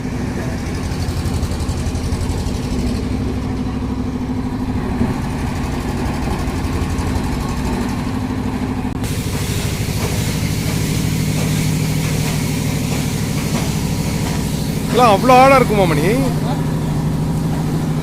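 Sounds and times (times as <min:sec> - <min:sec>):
engine humming steadily: 0:00.0 - 0:18.0.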